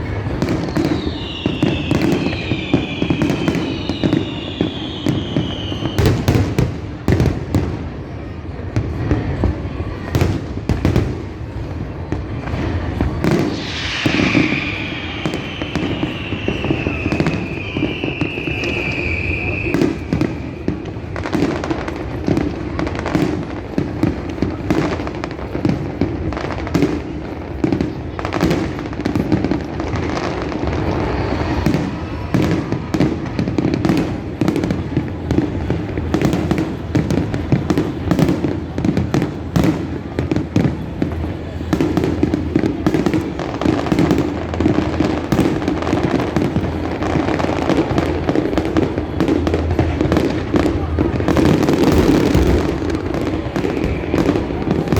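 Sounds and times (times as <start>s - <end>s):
fireworks bangs and crackling pops: 0.0s - 54.9s.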